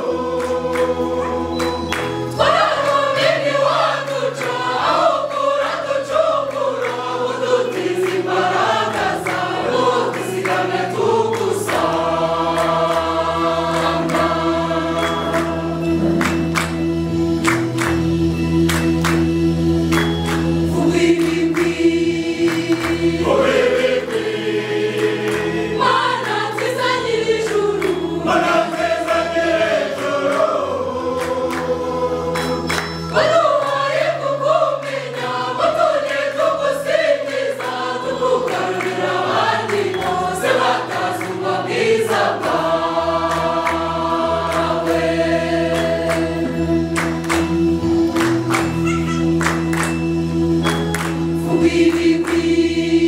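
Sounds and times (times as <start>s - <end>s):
choir singing a hymn: 0.0s - 17.3s, 20.3s - 47.9s, 51.3s - 53.0s.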